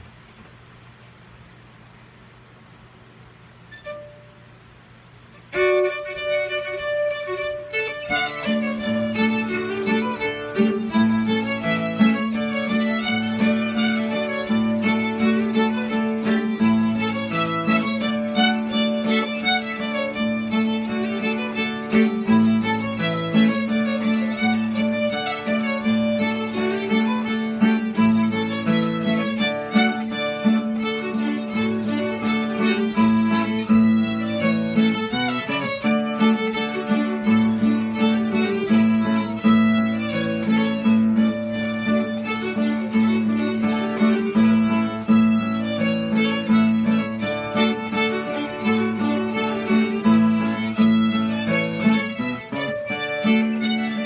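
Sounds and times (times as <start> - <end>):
quiet hum: 0.0 - 54.0
fiddle playing polka: 3.8 - 4.3, 5.4 - 54.0.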